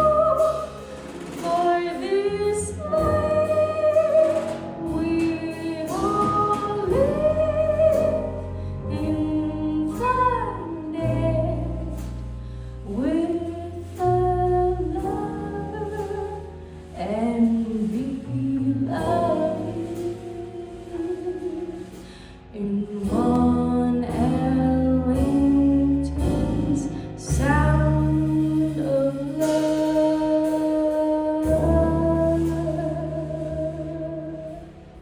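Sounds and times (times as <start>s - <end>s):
jazz band playing a ballad: 0.0s - 35.0s
steady bass line: 0.0s - 35.0s.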